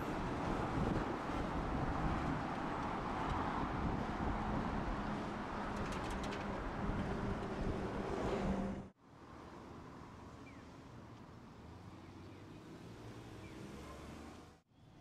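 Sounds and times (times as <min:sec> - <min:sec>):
distant street traffic: 0:00.0 - 0:15.0.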